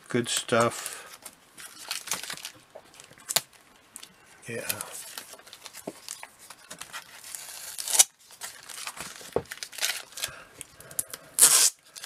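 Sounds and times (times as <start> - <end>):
paper and packaging crinkling: 0.2 - 10.7.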